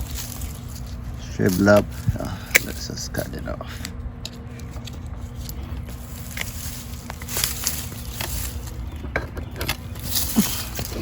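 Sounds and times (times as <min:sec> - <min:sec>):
dry vine snapping and scraping: 0:00.0 - 0:11.0.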